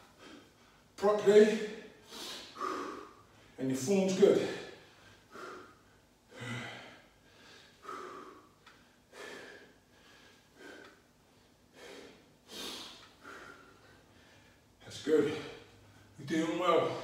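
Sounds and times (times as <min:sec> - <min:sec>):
man breathing with effort: 0:00.0 - 0:01.0, 0:01.7 - 0:03.6, 0:04.4 - 0:16.2.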